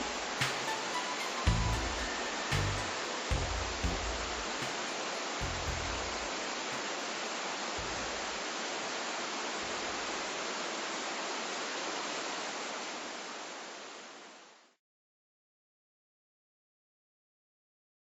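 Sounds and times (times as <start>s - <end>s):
waterfall rushing: 0.0s - 14.5s.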